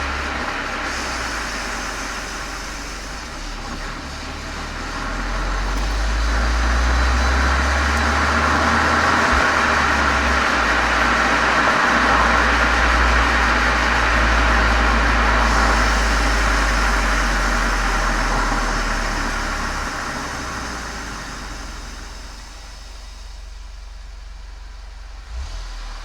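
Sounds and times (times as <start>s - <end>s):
car exhaust deep drone: 0.0s - 26.0s.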